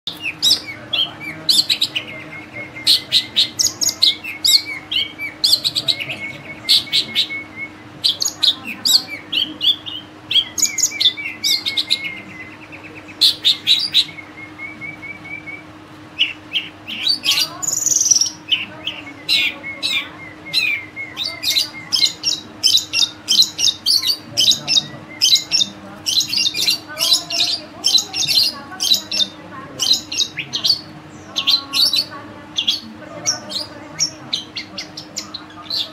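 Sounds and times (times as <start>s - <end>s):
faint steady hum: 0.1s - 35.9s
shrike singing: 0.1s - 35.9s.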